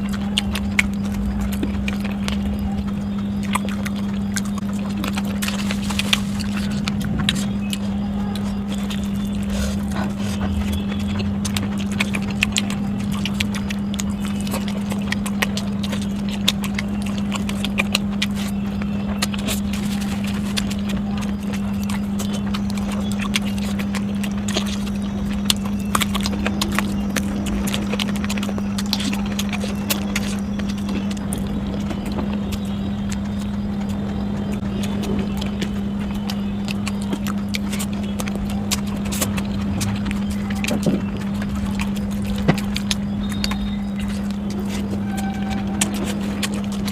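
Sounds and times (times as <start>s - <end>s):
steady low hum: 0.0s - 46.9s
wet chewing clicks and smacks: 0.0s - 46.9s.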